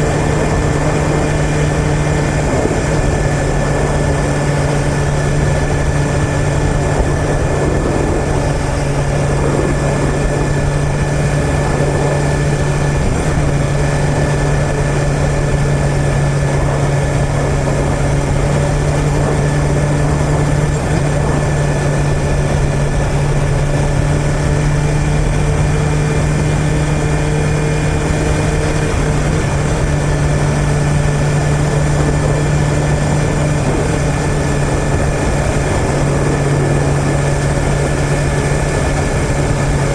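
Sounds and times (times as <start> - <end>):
motorcycle engine running steadily: 0.0 - 39.9
road and wind noise: 0.0 - 39.9.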